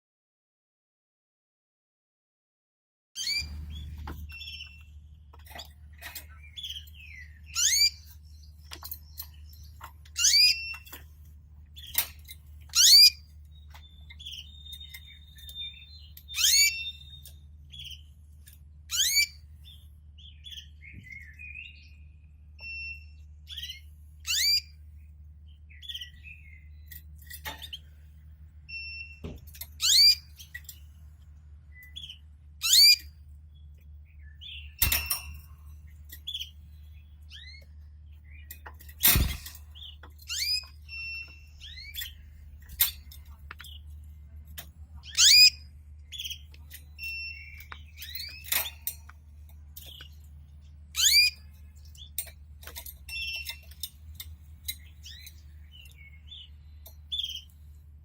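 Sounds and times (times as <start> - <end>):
canaries chirping: 3.2 - 28.0, 28.6 - 30.9, 31.7 - 44.3, 44.9 - 57.8
low steady hum: 3.2 - 58.0.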